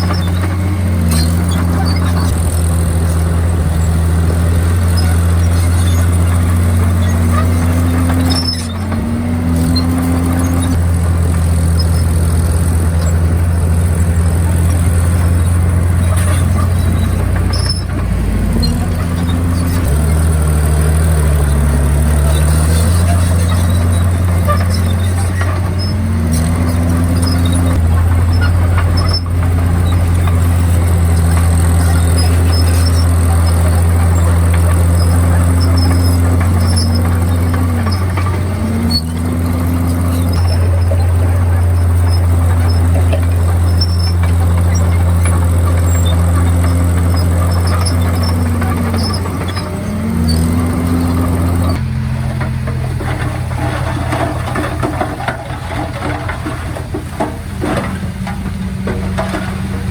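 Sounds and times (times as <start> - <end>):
bulldozer diesel engine running: 0.0 - 59.9
clattering noise: 0.0 - 59.9.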